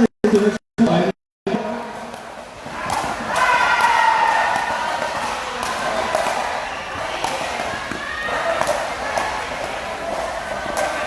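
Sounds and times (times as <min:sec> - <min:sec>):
murmur of chatter: 0:01.5 - 0:11.0.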